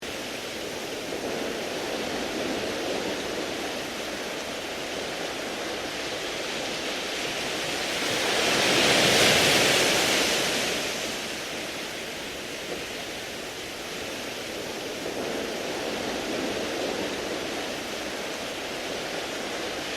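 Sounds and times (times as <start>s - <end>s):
waves washing over pebbles: 0.1s - 19.9s.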